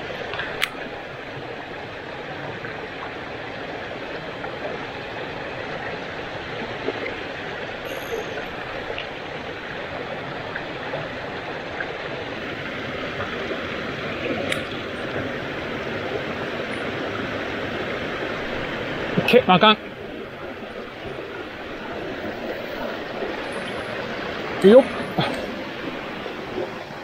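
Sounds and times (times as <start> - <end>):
stream running over rocks: 0.0 - 27.0.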